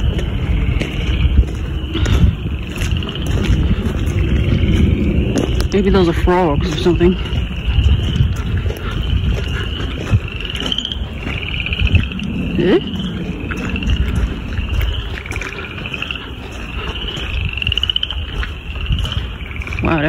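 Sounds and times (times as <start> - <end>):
low rumble of handling noise: 0.0 - 19.8
frogs calling with rattling trills: 0.0 - 20.0.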